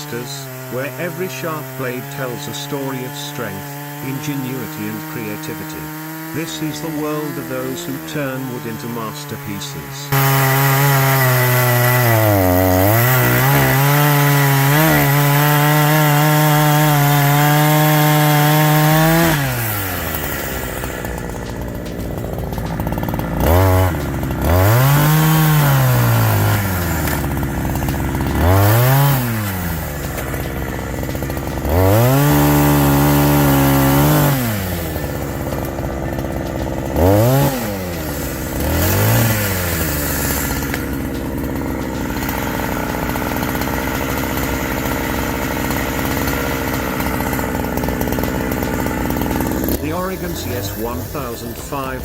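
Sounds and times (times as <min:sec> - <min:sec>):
chainsaw revving: 0:00.0 - 0:52.0.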